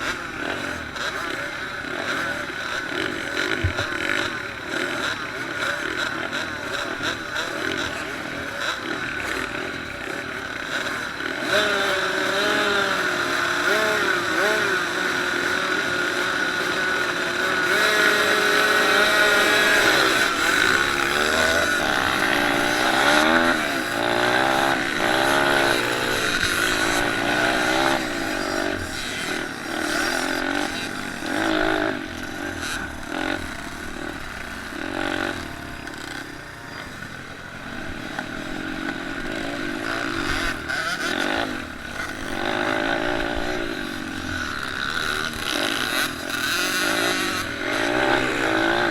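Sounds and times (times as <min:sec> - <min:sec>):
small motorcycle engines revving: 0:00.0 - 0:48.9.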